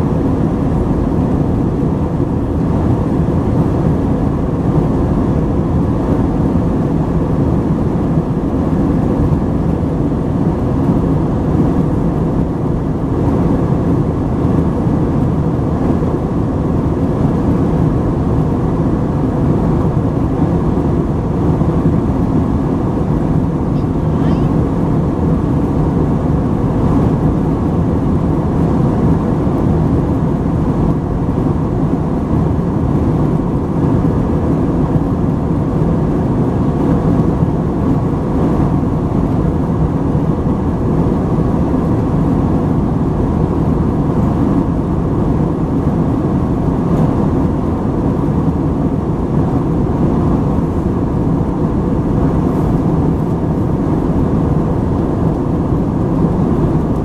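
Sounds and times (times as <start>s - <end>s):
airflow noise: 0.0s - 57.0s
airliner cabin engine rumble: 0.0s - 57.0s.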